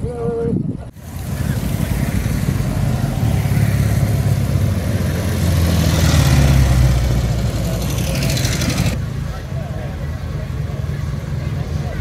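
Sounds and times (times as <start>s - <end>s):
motorcycles riding past: 1.0s - 12.0s.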